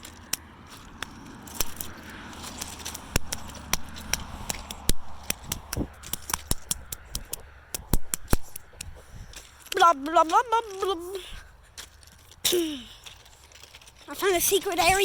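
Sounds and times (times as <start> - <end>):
stones crunching and clicking: 0.0 - 15.0.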